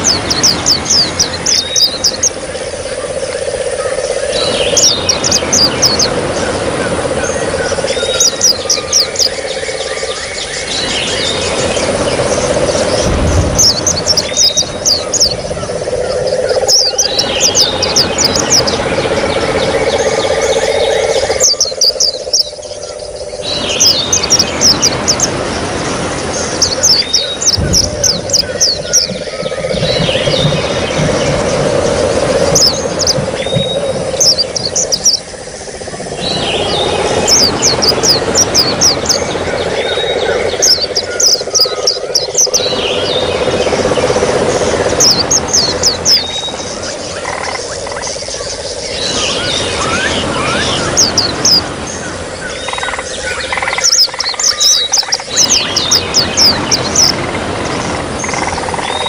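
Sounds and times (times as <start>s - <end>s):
songbird chirping: 0.0s - 59.0s
trickling water: 0.0s - 59.0s.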